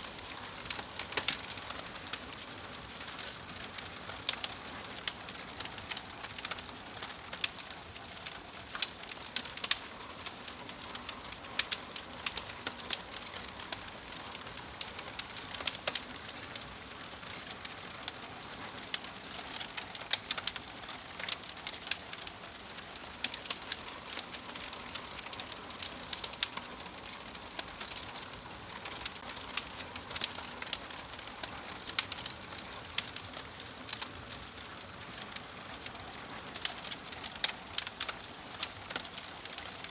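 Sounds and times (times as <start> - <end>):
soft fire hiss: 0.0 - 39.9
wood fire crackling: 0.0 - 39.9
fire pops and snaps: 0.1 - 39.9.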